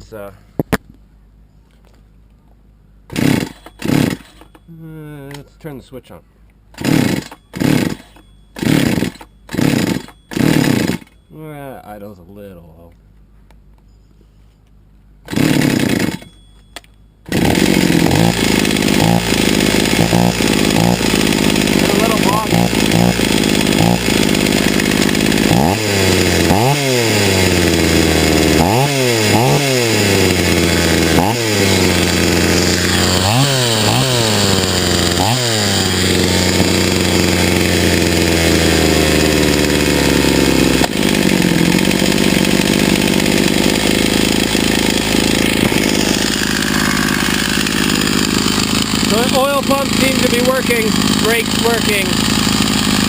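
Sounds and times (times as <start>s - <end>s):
chainsaw engine revving: 3.1s - 4.7s, 6.7s - 11.2s, 15.2s - 16.3s, 17.2s - 53.0s.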